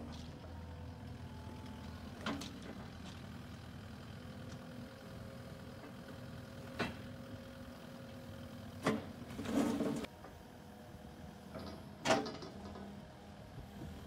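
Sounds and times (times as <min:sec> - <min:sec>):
excavator diesel engine idling: 0:00.0 - 0:14.0.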